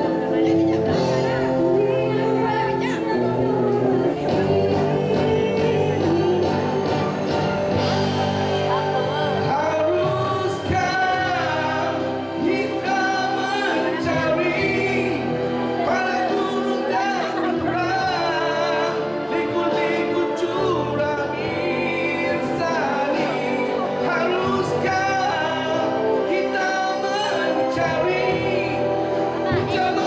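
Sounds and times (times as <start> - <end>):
man singing into a microphone: 0.0 - 7.9, 8.5 - 30.0
backing music track: 0.0 - 30.0.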